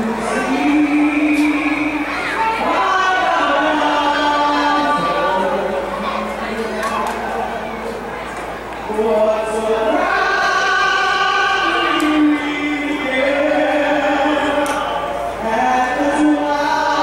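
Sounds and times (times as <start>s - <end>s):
anthem sung over sound system: 0.0s - 17.0s.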